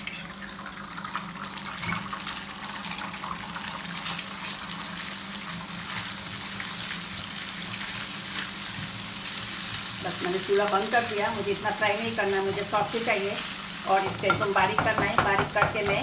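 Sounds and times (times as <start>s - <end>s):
egg sizzling in hot oil: 0.0s - 16.0s.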